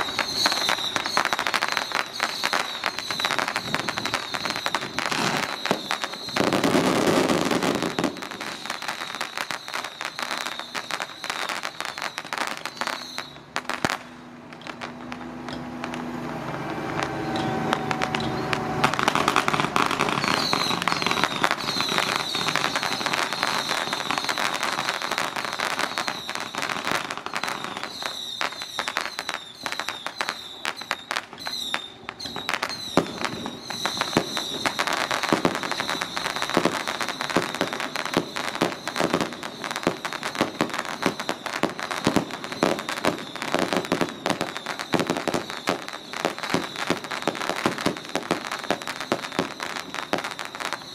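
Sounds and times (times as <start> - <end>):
firecrackers crackling: 0.0 - 50.9
loud firecracker bangs: 0.0 - 50.9.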